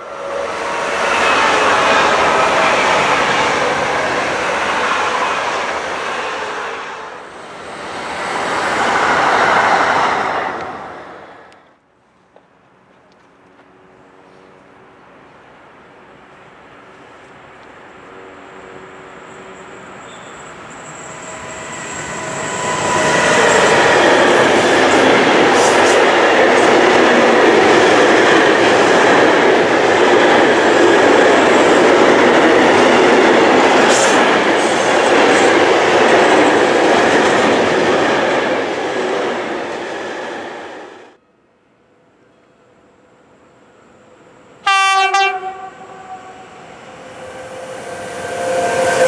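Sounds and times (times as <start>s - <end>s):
freight train wheels rumbling: 0.0s - 11.6s, 16.3s - 41.2s, 45.3s - 49.0s.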